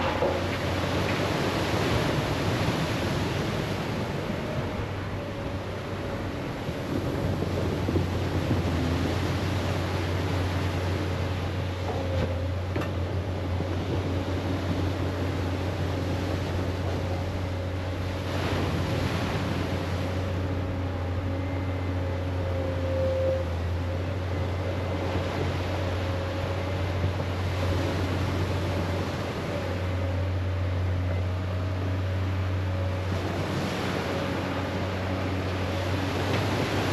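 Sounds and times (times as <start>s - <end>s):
surf washing in: 0.0s - 11.8s, 13.4s - 22.4s, 24.0s - 30.9s, 31.5s - 36.9s
engine hum with whine: 0.0s - 36.9s.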